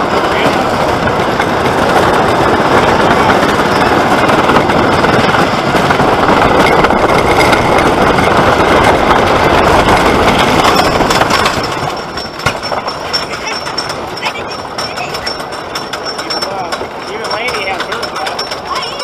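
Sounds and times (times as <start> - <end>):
roller coaster rumbling and rattling: 0.0 - 19.0.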